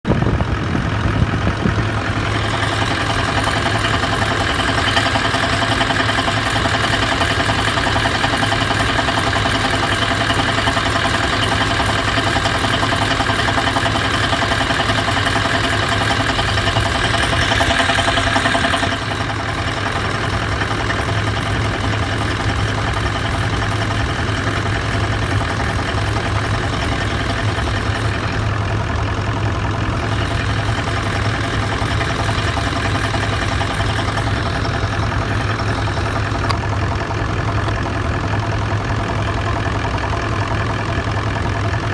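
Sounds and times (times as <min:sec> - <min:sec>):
diesel engine idling: 0:00.0 - 0:41.9
engine knocking: 0:00.0 - 0:41.9.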